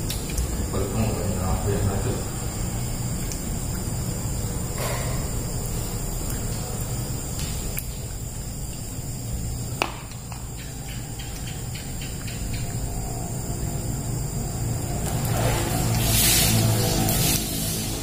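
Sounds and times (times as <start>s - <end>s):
high-pitched insect chirring: 0.0s - 18.0s
low background hum: 0.0s - 18.0s.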